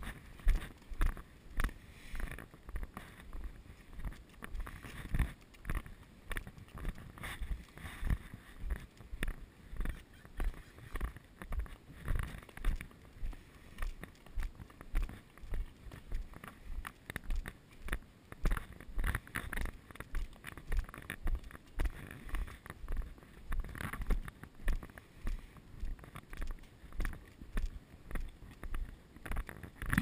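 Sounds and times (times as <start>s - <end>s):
footsteps on concrete: 0.0s - 30.0s.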